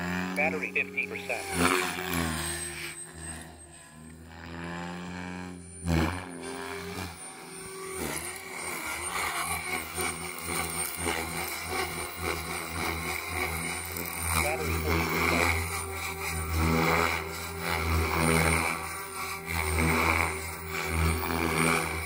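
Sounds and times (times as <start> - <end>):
rc helicopter motor whine: 0.0 - 22.0.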